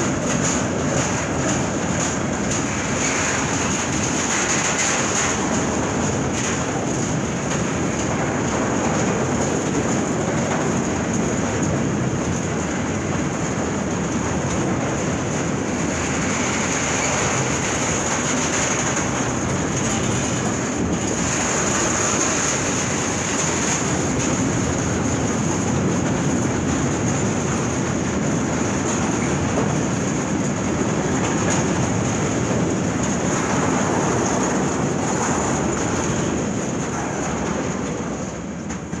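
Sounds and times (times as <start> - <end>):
freight train rolling past: 0.0 - 39.0.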